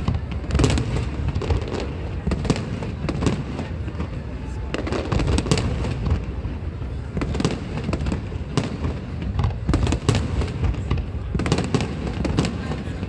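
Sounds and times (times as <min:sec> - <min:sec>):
continuous rumble: 0:00.0 - 0:13.0
fireworks cracks and booms: 0:00.0 - 0:13.0.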